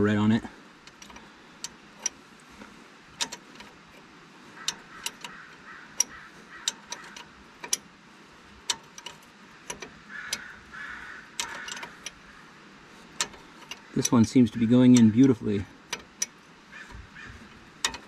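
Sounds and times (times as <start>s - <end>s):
light metallic clicks and taps: 0.8s - 7.9s, 8.6s - 10.5s, 11.4s - 12.2s, 13.1s - 18.0s.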